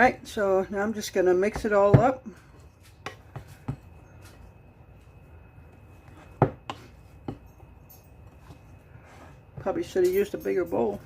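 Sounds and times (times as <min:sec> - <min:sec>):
food being mixed in a bowl: 0:00.0 - 0:11.0.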